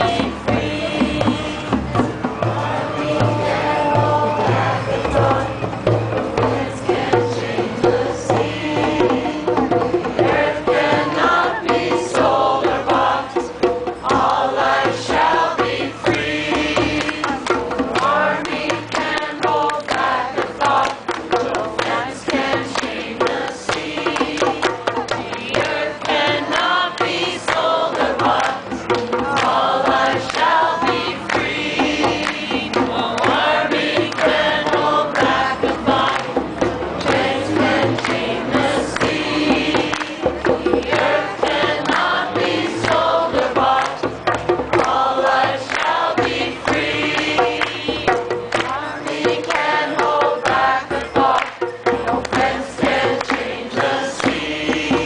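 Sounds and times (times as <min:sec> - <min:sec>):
group singing a chant: 0:00.0 - 0:55.0
hand drums beating: 0:00.0 - 0:55.0.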